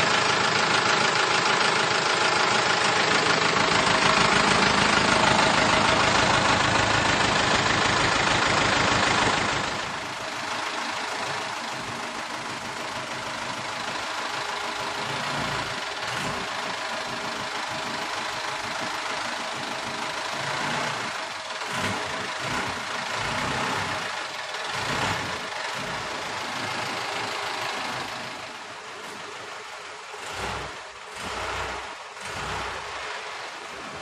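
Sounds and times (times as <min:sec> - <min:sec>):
small truck engine idling: 0:00.0 - 0:34.0
truck moving off under power: 0:00.0 - 0:34.0.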